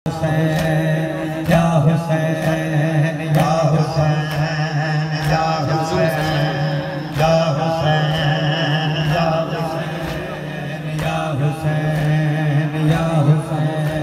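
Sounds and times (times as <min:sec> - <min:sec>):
man chanting through loudspeakers: 0:00.1 - 0:14.0.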